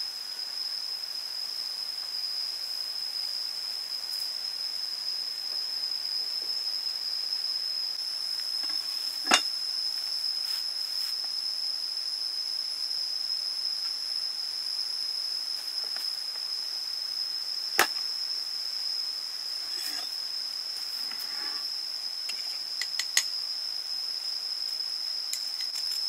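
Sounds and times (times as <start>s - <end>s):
constant hiss: 0.0s - 26.0s
high-pitched insect drone: 0.0s - 26.0s.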